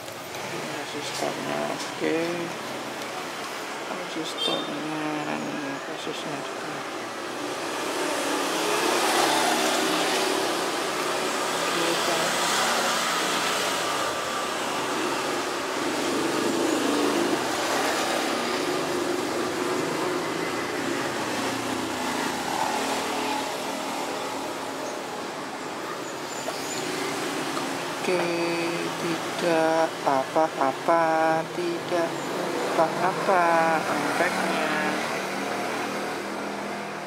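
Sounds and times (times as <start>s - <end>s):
rushing background noise: 0.0s - 37.0s.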